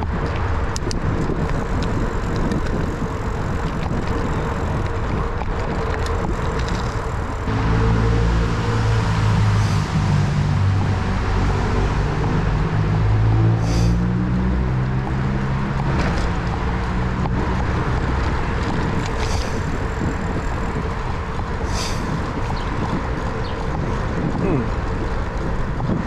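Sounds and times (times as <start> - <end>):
bicycle tyre rumble: 0.0 - 26.0
wind on microphone: 0.0 - 26.0.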